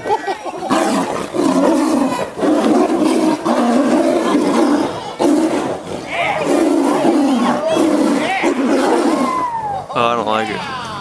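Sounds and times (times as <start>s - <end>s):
tigers growling: 0.0s - 9.9s.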